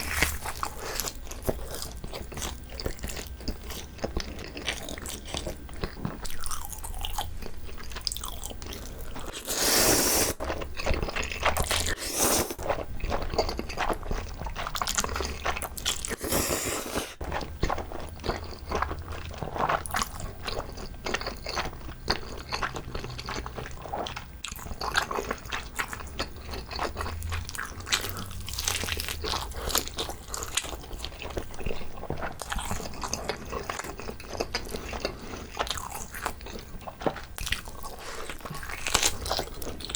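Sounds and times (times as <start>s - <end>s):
close-miked chewing and smacking: 0.0s - 16.5s, 17.2s - 39.9s.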